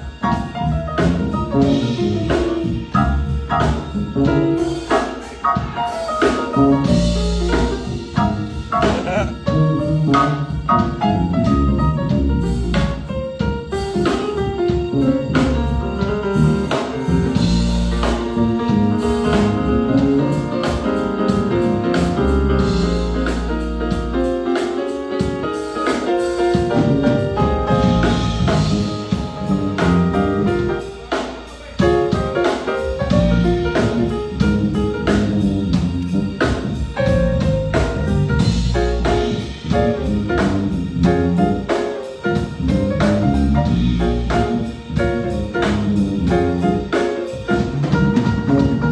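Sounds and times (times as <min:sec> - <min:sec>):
deep bass line: 0:00.0 - 0:04.6, 0:06.6 - 0:13.4, 0:14.8 - 0:24.4, 0:26.6 - 0:32.0, 0:33.0 - 0:41.7, 0:42.3 - 0:48.9
drum kit steady beat: 0:00.0 - 0:48.9
keyboards: 0:00.0 - 0:48.9.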